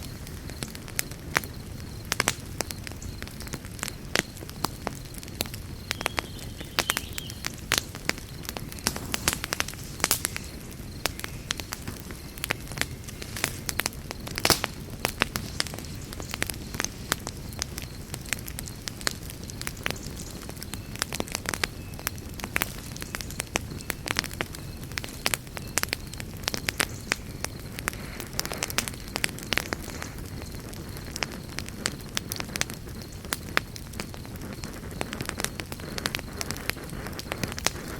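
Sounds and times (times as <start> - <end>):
campfire crackling and popping: 0.0 - 37.9.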